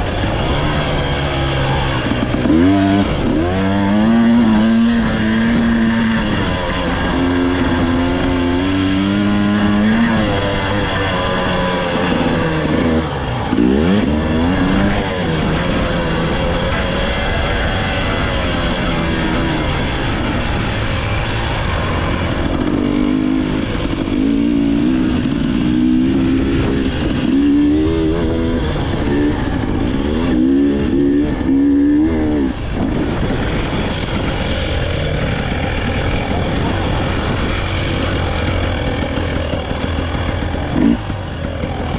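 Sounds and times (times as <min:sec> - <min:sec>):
motorcycle engine revving: 0:00.0 - 0:41.9
steady rush of noise: 0:00.0 - 0:41.9.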